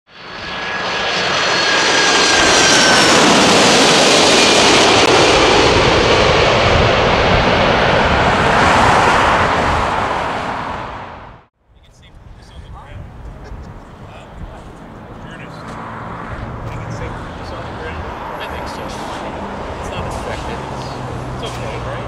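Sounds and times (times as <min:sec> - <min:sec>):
jet engines roaring: 0:00.1 - 0:22.0.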